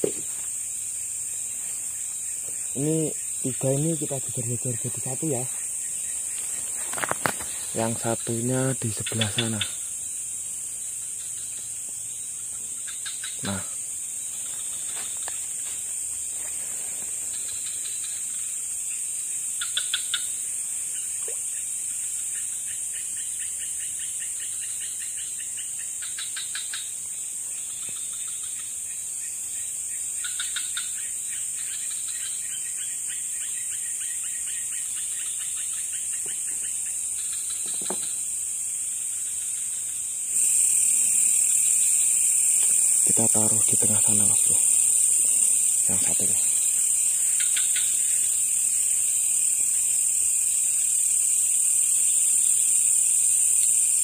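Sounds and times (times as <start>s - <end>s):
crickets and insects trilling: 0.0s - 54.0s.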